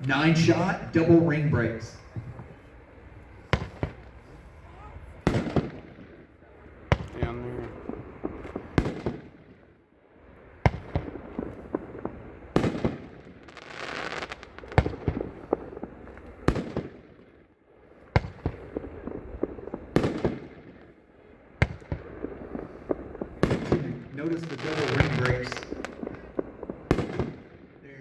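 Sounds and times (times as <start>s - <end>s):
firework reports echoing: 0.0s - 28.0s.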